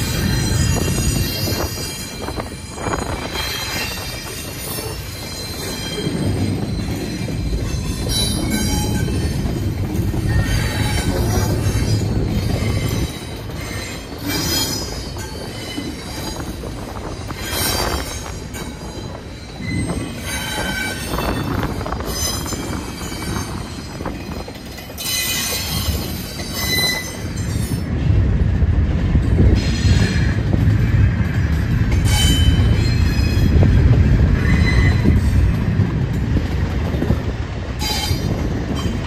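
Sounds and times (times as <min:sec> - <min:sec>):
train wheel squeal: 0:00.0 - 0:27.9, 0:29.3 - 0:37.1, 0:37.7 - 0:39.0
diesel locomotive deep rumble: 0:00.0 - 0:39.0.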